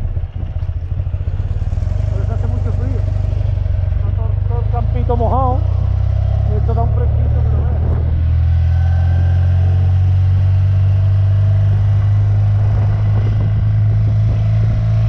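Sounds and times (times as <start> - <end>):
wind rush over microphone: 0.0 - 4.0, 5.4 - 15.0
motorcycle engine droning: 0.0 - 15.0.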